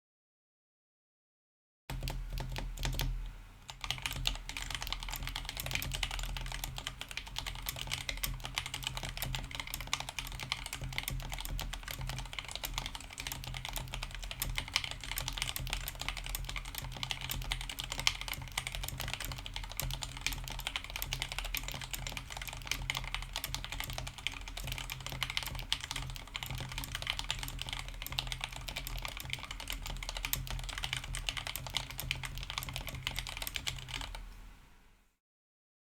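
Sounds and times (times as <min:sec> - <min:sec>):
fast typing on mechanical keyboard: 0:01.9 - 0:34.3.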